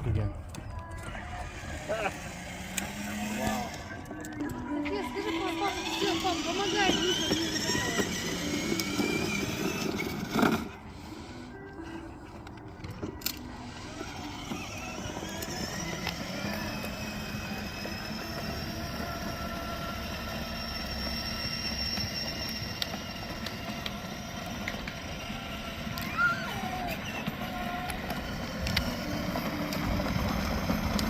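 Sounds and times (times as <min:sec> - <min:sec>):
toy car motors whirring: 0:00.7 - 0:31.0.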